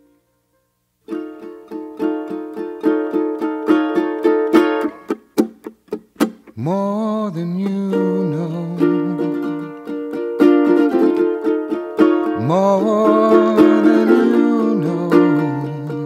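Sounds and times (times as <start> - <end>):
strummed string instrument: 0.5 - 16.0.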